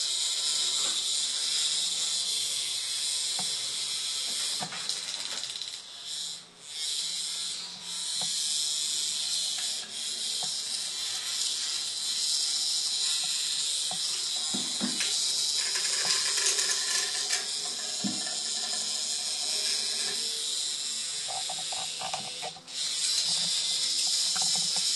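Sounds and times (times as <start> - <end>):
vibrating toy buzzing on tiles: 0.0 - 24.9.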